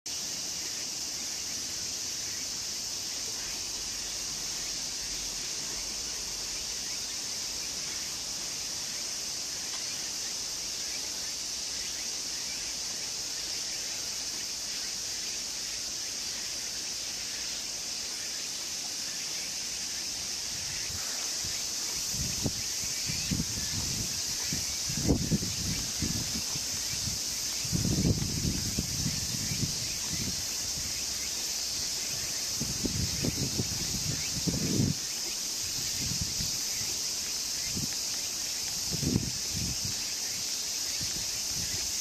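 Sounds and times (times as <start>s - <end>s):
insect chorus drone: 0.1s - 42.0s.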